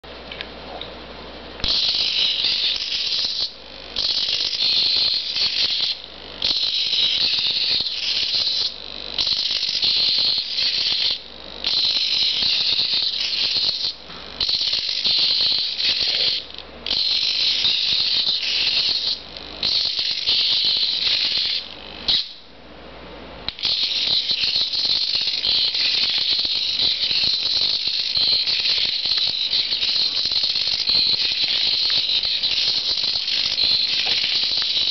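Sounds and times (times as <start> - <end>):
servo motors whining and rattling: 1.6 - 22.4, 23.5 - 34.9.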